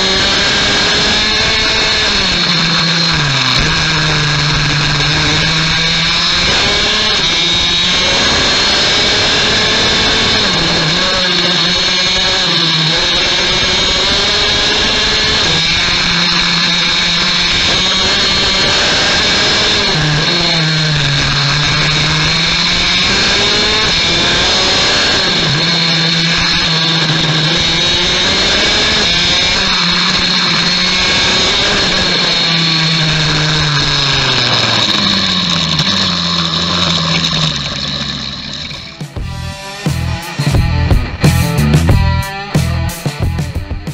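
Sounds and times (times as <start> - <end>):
kart engine revving: 0.0 - 43.9.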